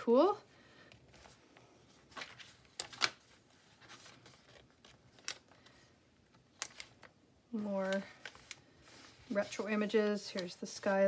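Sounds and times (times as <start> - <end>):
paper pages turning: 1.0 - 11.0
paper rustling: 1.1 - 11.0.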